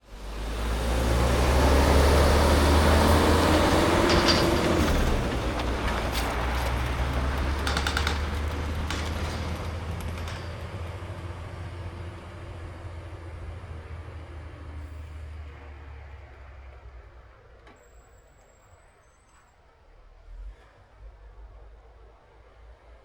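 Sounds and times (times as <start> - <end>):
diesel truck engine rumbling: 0.0 - 19.2.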